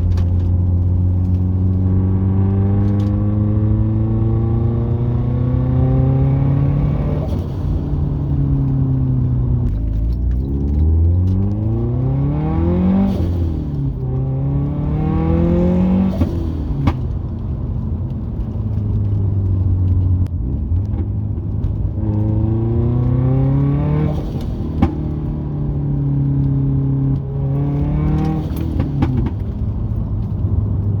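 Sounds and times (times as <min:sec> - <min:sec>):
car engine accelerating: 0:00.0 - 0:31.0
sharp cracks at gear shifts: 0:00.0 - 0:31.0.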